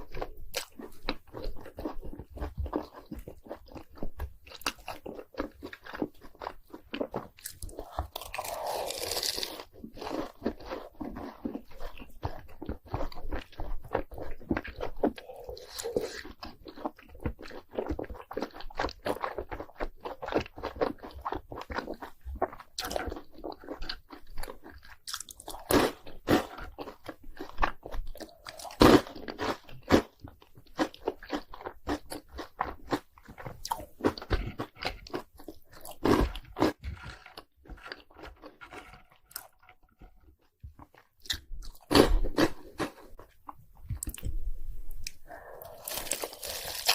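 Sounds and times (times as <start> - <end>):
crunching and chewing snacks: 0.0 - 44.3, 45.1 - 46.9.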